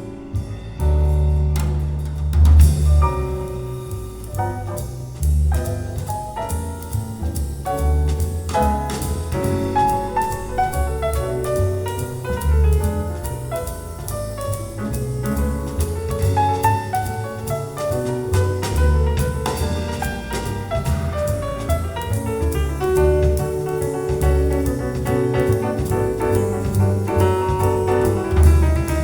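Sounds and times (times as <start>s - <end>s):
jazz with piano bass and drums: 0.0s - 29.0s.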